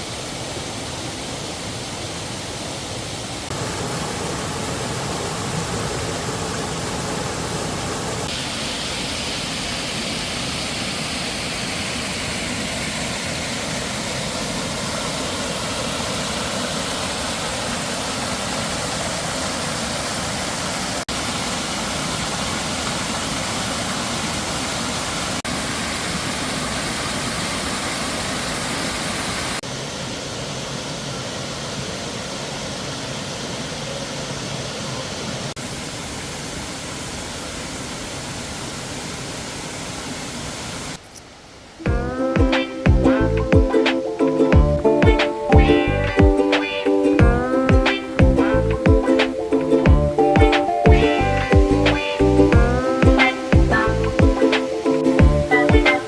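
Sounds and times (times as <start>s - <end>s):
rushing mountain stream: 0.0s - 56.0s.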